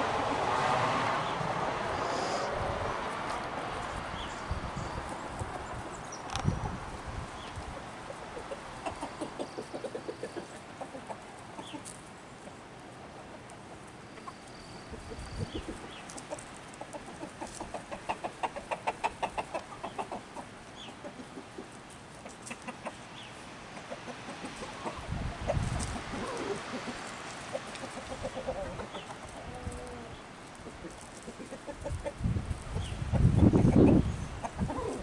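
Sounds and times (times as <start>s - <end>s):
chickens clucking: 3.3s - 35.0s.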